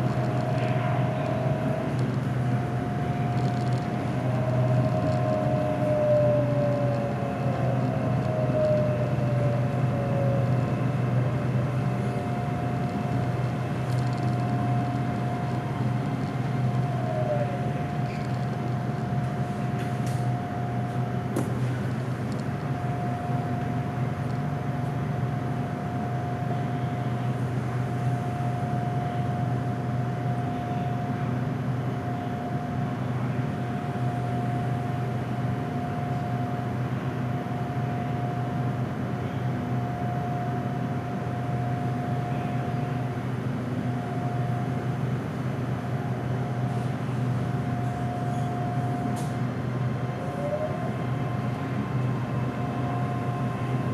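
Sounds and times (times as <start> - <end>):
electric train high whine: 0.0 - 53.9
electric train low hum: 0.0 - 53.9
train rolling noise: 0.0 - 53.9.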